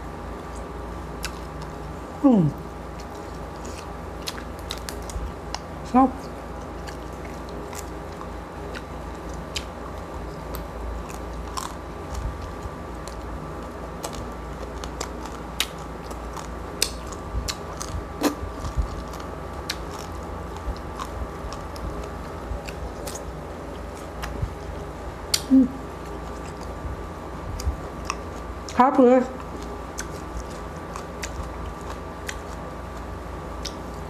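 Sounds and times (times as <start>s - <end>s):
chewing crispy skin: 0.1s - 34.0s.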